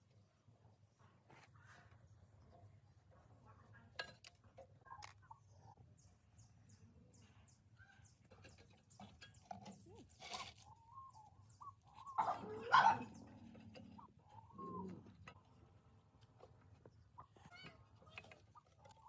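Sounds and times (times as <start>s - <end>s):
birds chirping and clucking: 3.4s - 19.0s.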